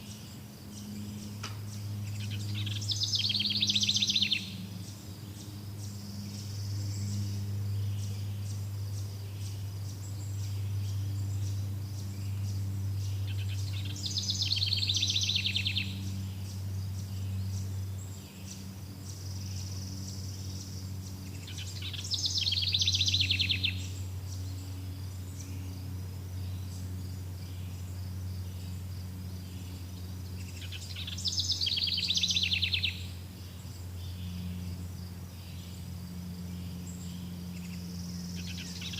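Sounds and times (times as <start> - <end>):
forest birdsong: 0.0 - 38.9
high insect trill: 0.0 - 38.9
steady low hum: 0.0 - 38.9.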